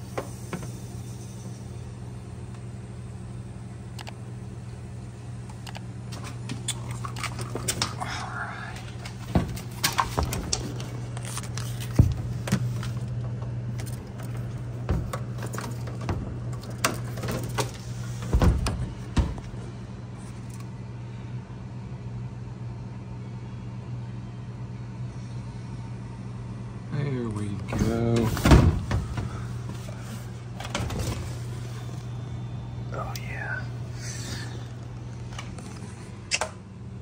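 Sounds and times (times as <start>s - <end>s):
refrigerator compressor humming: 0.0s - 37.0s.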